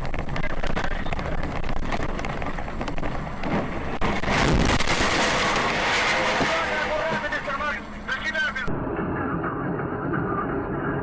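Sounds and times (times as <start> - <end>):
road and wind noise: 0.0 - 10.2.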